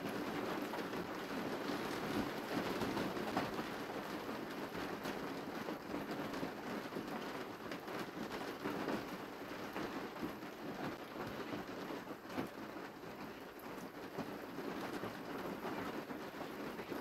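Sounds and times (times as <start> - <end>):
steady rain pattering: 0.0 - 17.0.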